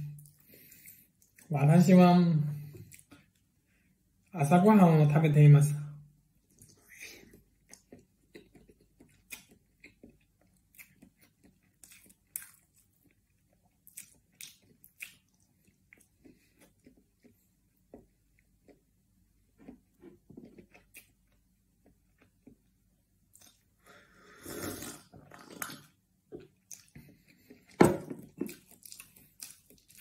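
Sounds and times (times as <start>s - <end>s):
person chewing: 0.1s - 1.5s, 2.6s - 3.5s, 6.4s - 30.0s.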